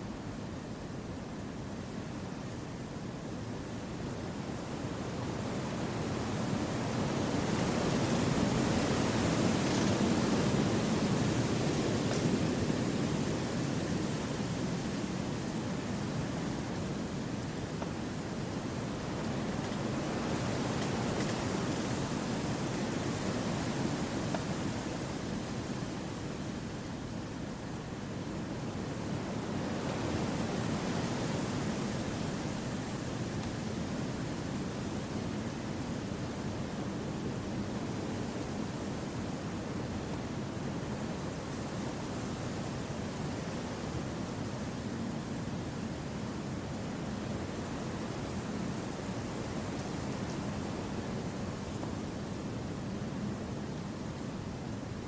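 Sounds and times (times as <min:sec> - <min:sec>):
wind rushing through trees: 0:00.0 - 0:55.0.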